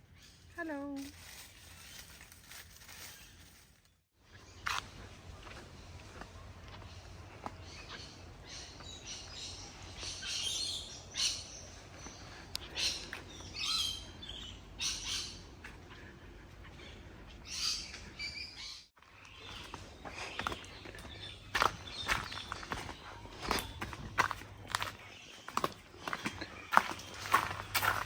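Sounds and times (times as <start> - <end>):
birds calling: 4.3 - 28.0.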